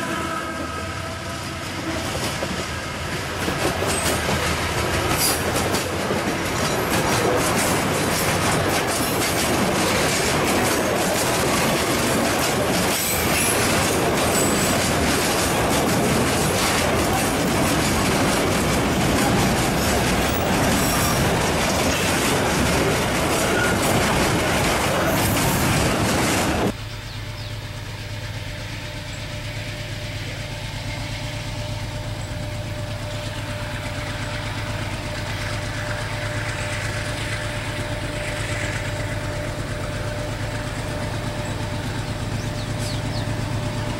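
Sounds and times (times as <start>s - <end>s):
locomotive engine running: 0.0s - 43.9s
train wheel squeal: 0.0s - 43.9s
train wheels clattering over rails: 1.6s - 26.8s, 28.2s - 43.9s.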